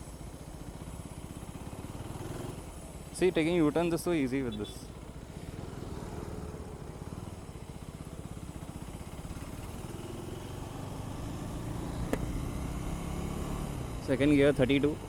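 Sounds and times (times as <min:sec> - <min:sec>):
motorcycle engine at low revs: 0:00.0 - 0:15.0.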